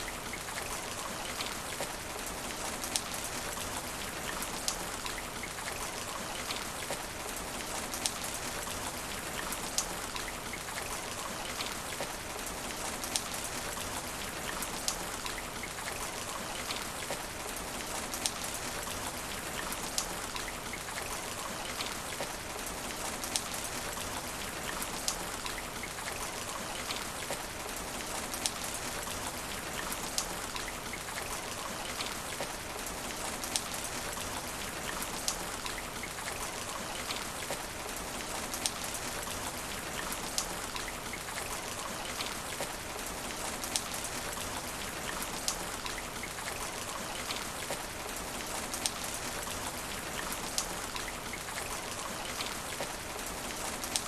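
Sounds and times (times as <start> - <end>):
rain on asphalt: 0.0 - 54.0.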